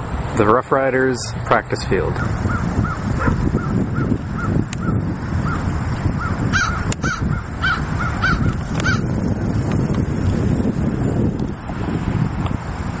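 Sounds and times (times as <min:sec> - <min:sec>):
crickets chirping: 0:00.0 - 0:13.0
steady low rumble: 0:00.0 - 0:13.0.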